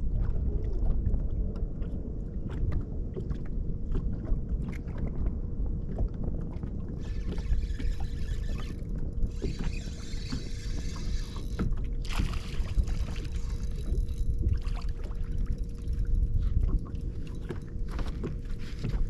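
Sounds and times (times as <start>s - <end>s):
faint hum: 0.0s - 19.0s
low boat rumble: 0.0s - 19.0s.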